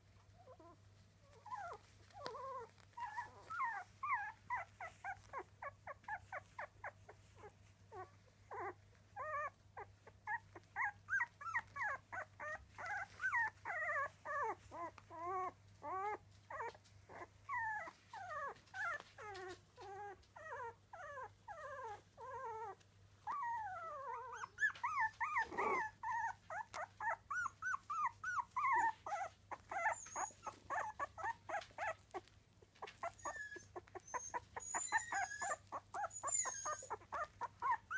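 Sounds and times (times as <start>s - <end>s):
puppies whimpering and squeaking: 0.4s - 37.9s.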